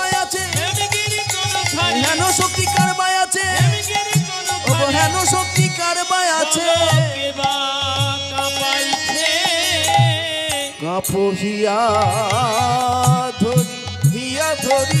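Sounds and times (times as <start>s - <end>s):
held melody with vibrato: 0.0s - 15.0s.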